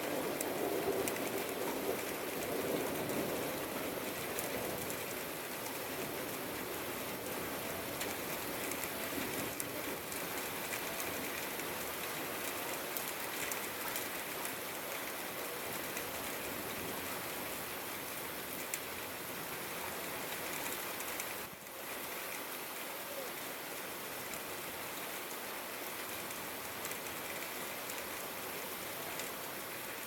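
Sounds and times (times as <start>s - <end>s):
rain drops on hard surface: 0.0s - 30.0s.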